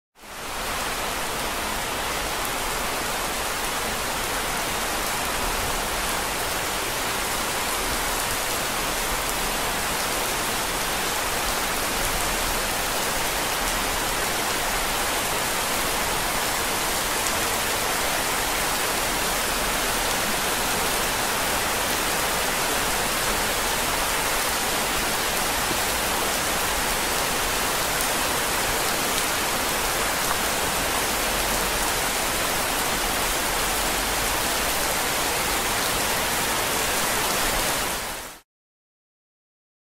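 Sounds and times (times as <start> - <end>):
steady rain falling: 0.2 - 38.4.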